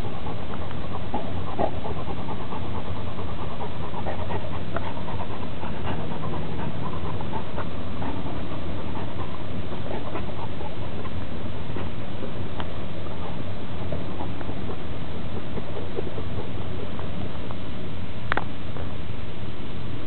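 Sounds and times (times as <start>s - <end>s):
dog licking brick: 0.0s - 17.6s
steady low hum: 0.0s - 20.0s.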